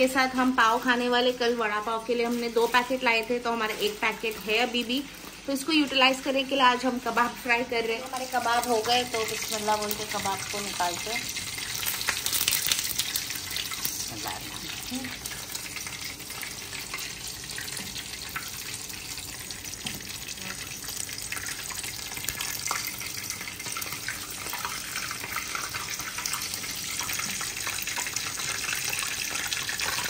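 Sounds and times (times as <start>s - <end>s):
oil sizzling in pan: 0.0s - 30.0s.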